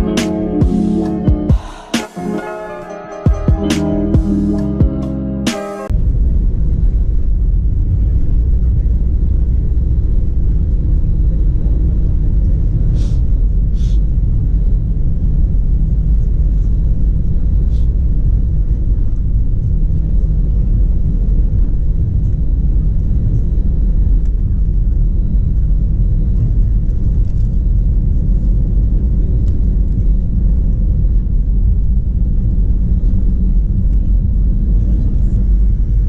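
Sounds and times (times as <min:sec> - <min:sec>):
airliner cabin rumble: 0:05.8 - 0:36.0.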